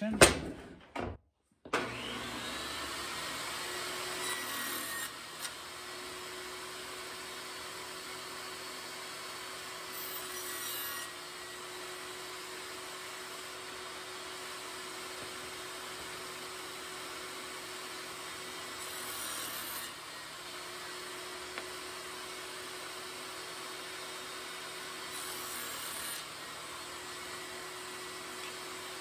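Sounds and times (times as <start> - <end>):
table saw running: 1.7 - 29.0
saw blade cutting wood: 1.9 - 29.0.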